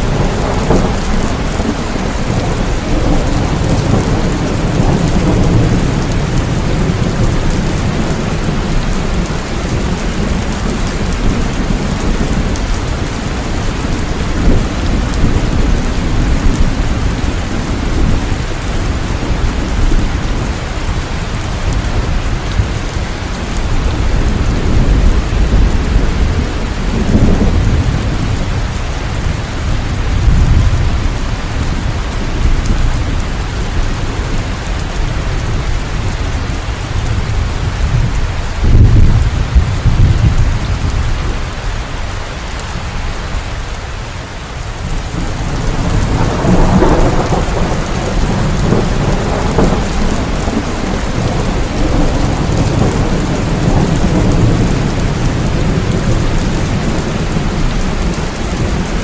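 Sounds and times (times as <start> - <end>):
heavy rainfall: 0.0 - 59.0
thunder rumbling: 0.0 - 59.0.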